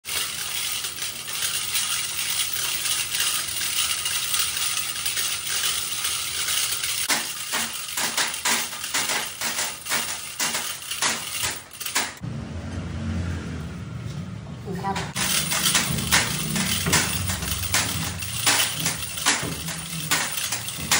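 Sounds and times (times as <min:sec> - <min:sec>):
metal chain rattling and clinking: 0:00.0 - 0:12.2, 0:15.1 - 0:20.9.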